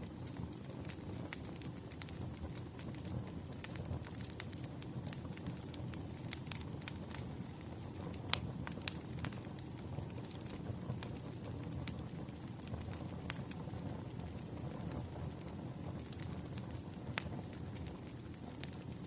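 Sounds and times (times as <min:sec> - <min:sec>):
firewood crackling and popping: 0:00.0 - 0:19.0
rumble of flames: 0:00.0 - 0:19.0.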